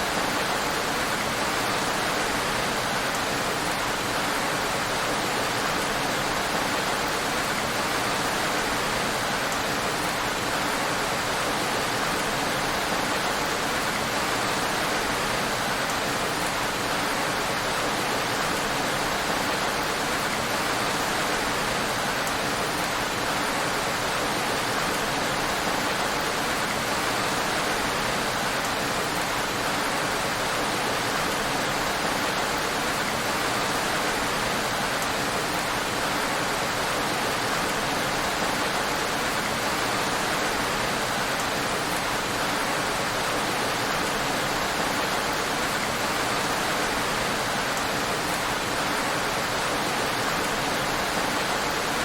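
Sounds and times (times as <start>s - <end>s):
heavy rain on a road: 0.0s - 52.0s.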